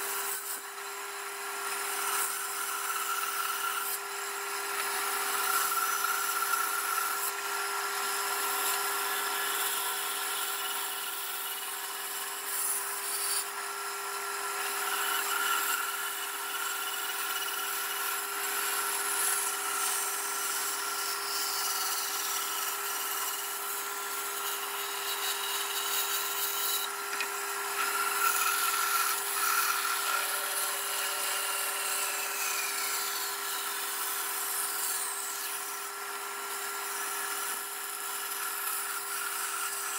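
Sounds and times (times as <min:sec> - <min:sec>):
bandsaw motor hum: 0:00.0 - 0:39.9.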